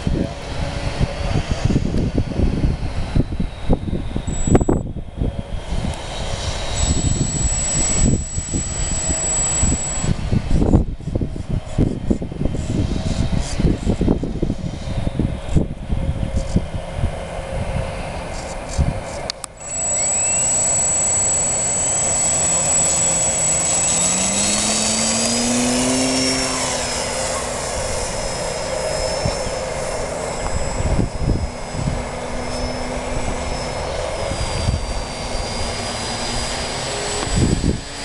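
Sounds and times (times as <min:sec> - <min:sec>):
wind buffeting microphone: 0:00.0 - 0:19.3, 0:21.8 - 0:38.0
model plane motor whine: 0:00.0 - 0:38.0.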